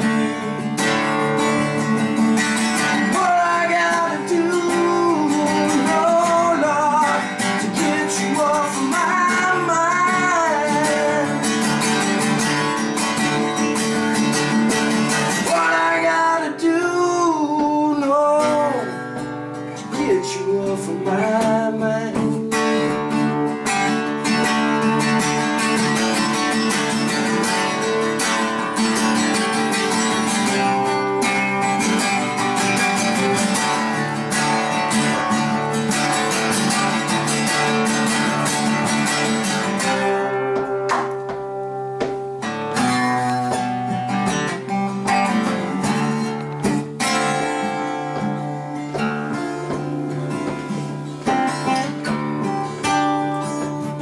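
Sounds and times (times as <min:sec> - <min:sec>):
acoustic guitars strumming chords: 0:00.0 - 0:54.0.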